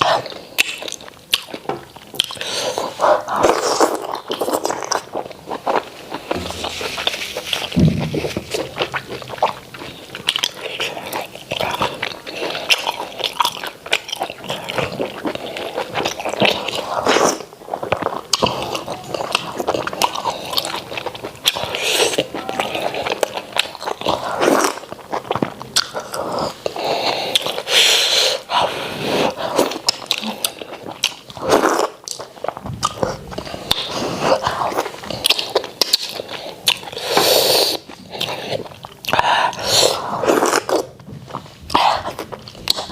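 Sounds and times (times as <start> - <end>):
wet chewing and lip smacking: 0.0 - 28.6, 29.2 - 42.9.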